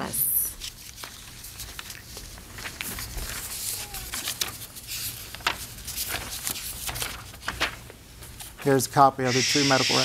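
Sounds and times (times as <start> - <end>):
paper rustling and crinkling: 0.6 - 8.8.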